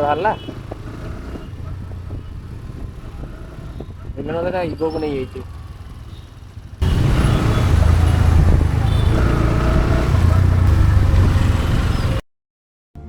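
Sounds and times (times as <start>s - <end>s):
traffic: 0.0s - 12.2s
wind and engine rumble: 0.0s - 12.2s.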